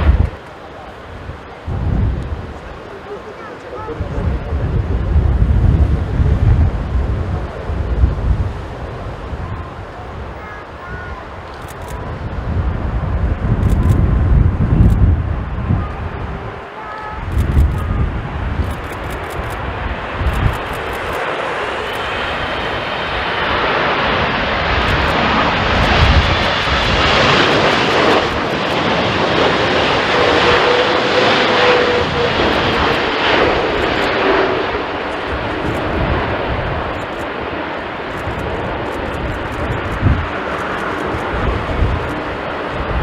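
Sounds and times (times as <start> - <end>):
jet airliner passing: 0.0 - 43.0
jet engine whine: 0.0 - 43.0
wind buffeting microphone: 0.0 - 43.0.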